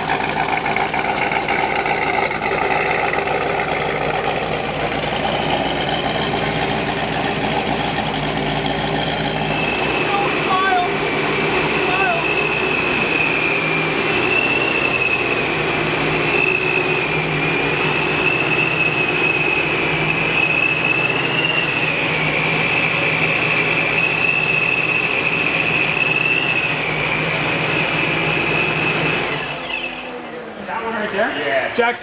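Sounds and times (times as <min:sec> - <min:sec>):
car running on dyno with whine: 0:00.0 - 0:32.0.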